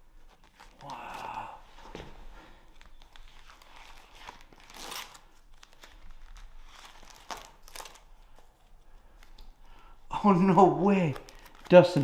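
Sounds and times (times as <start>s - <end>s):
paper pages rustling: 0.0s - 9.8s, 10.4s - 12.0s.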